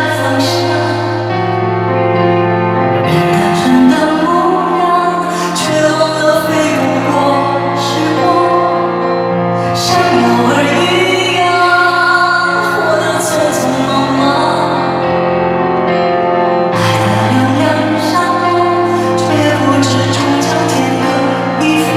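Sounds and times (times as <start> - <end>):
instrumental accompaniment: 0.0 - 21.9.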